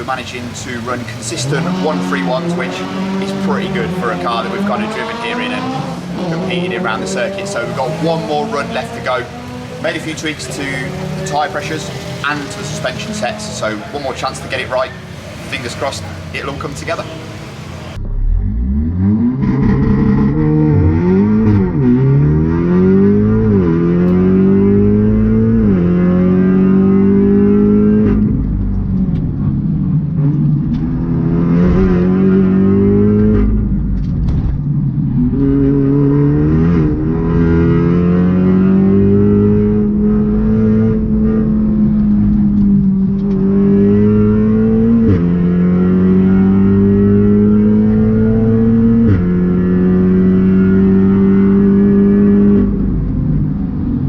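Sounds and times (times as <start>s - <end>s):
turbocharged car engine revving: 0.0s - 54.0s.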